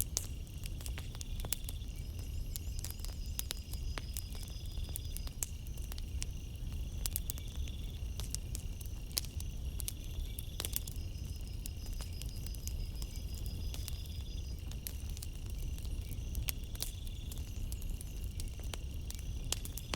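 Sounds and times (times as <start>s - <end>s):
campfire crackling and popping: 0.0s - 19.9s
crickets chirping: 0.0s - 19.9s.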